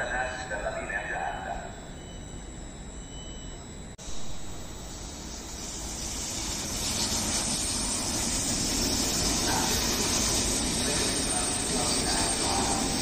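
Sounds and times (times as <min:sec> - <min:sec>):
high-speed train rushing: 0:00.0 - 0:01.8, 0:04.0 - 0:13.0.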